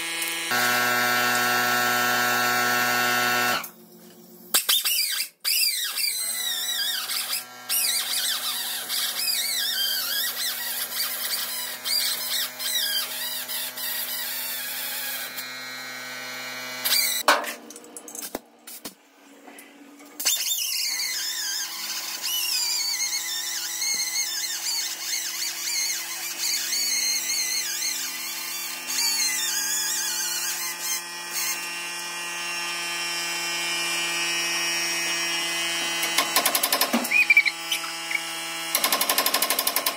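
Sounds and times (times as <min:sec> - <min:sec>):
air cut-off tool whining: 0:00.0 - 0:03.7, 0:05.5 - 0:17.2, 0:20.3 - 0:39.9.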